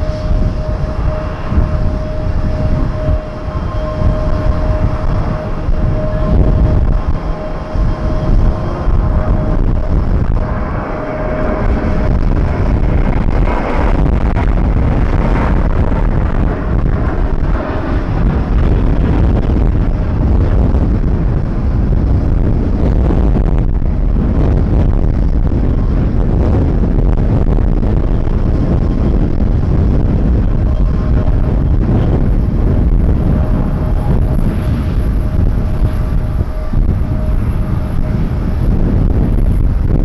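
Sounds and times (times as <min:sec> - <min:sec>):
faint engine whine: 0:00.0 - 0:40.0
jet engine rumble: 0:00.0 - 0:40.0
wind on microphone: 0:00.0 - 0:40.0.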